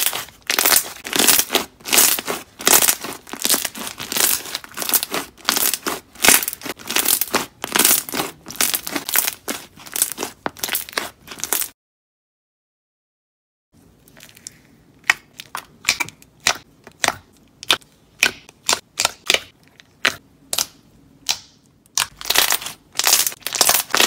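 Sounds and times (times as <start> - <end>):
hands squishing slime: 0.0 - 11.7, 14.2 - 24.0.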